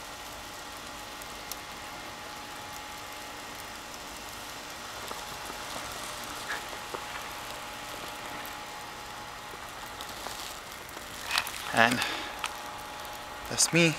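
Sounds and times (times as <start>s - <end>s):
hiss of falling snow: 0.0s - 13.9s.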